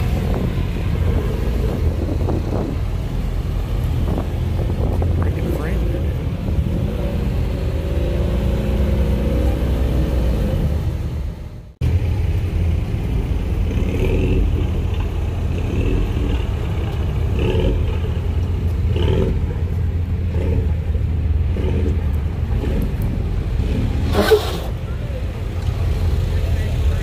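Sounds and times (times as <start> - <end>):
car engine rumbling past: 0.0 - 27.0.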